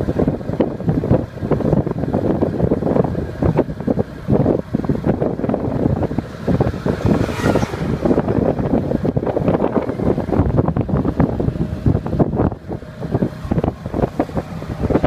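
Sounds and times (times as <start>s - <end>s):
road noise: 0.0s - 15.0s
vehicle running: 0.0s - 15.0s
wind buffeting microphone: 0.0s - 15.0s.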